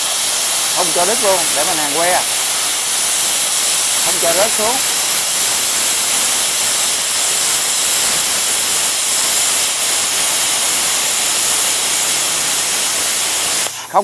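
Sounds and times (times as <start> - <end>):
plasma cutter hissing: 0.0 - 14.0.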